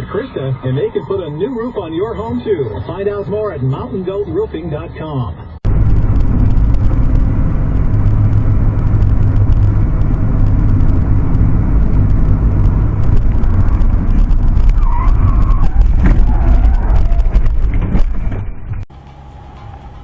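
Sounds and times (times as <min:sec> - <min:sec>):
vehicle road and engine rumble: 0:00.0 - 0:20.0.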